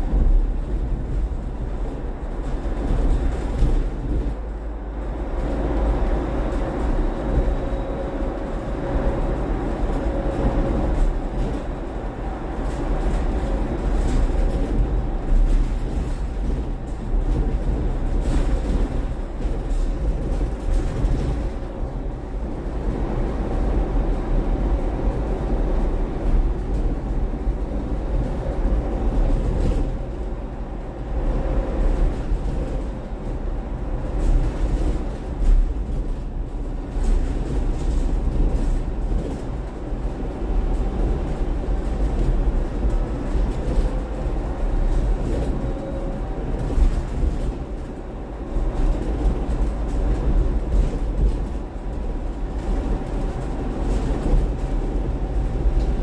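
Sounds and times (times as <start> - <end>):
bus cabin rumble: 0.0 - 56.0.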